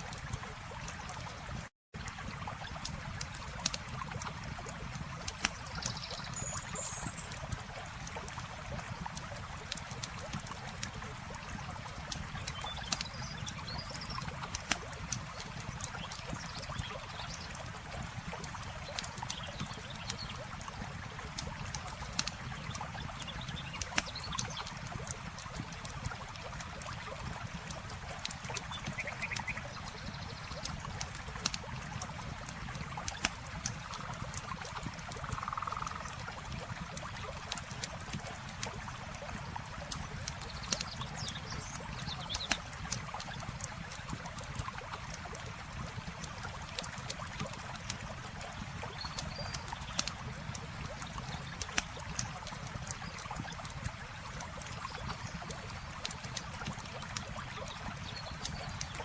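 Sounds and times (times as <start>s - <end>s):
campfire crackling and popping: 0.0s - 59.0s
flowing water: 0.0s - 59.0s.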